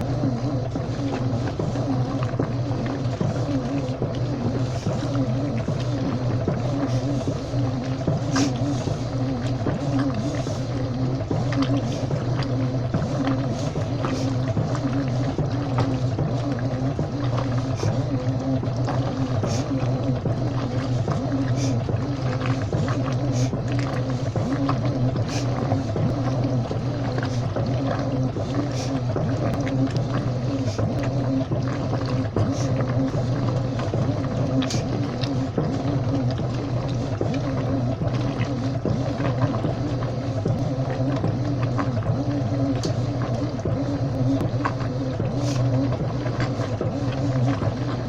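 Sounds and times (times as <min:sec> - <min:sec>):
washing machine motor hum: 0:00.0 - 0:48.0
water sloshing in drum: 0:00.0 - 0:48.0.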